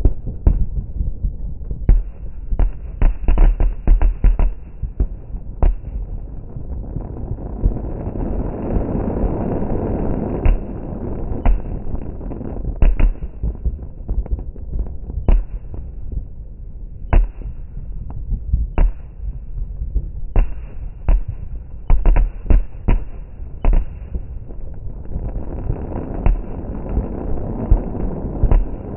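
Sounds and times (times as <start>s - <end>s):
steady low rumble: 0.0s - 28.9s
fireworks bangs: 1.8s - 16.3s, 17.1s - 28.9s.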